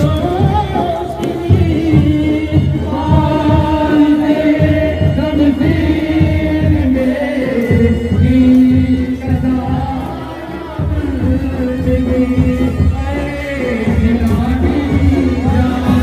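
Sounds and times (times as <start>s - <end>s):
chanted singing: 0.0s - 16.0s
steady drum beat: 0.0s - 16.0s.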